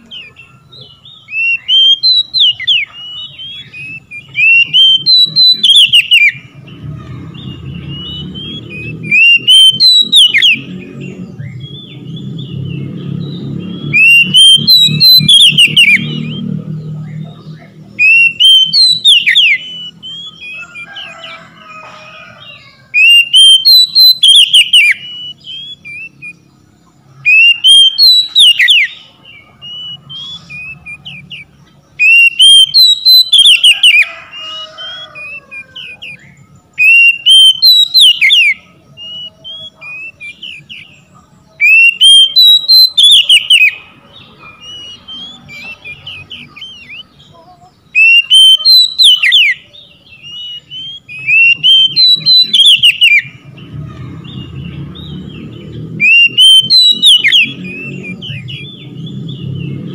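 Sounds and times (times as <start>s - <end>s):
bird singing whistled phrases: 0.0s - 6.5s, 7.4s - 21.2s, 22.9s - 26.4s, 27.3s - 41.0s, 41.6s - 43.8s, 44.4s - 53.4s, 54.3s - 59.4s.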